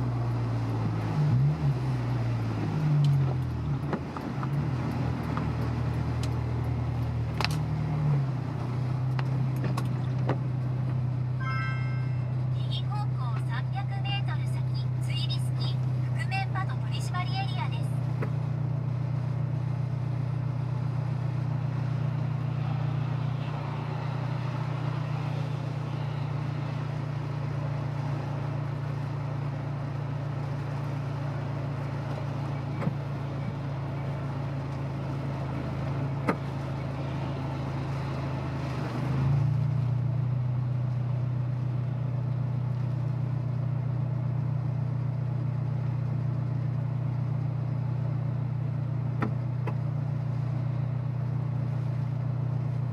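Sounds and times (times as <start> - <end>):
car engine and road noise drone: 0.0 - 52.9.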